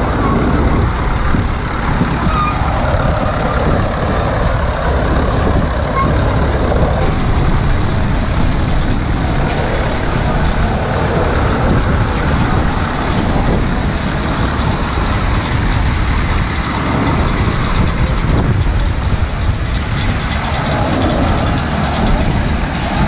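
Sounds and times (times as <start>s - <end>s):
combine harvester machinery rumbling: 0.0s - 23.0s.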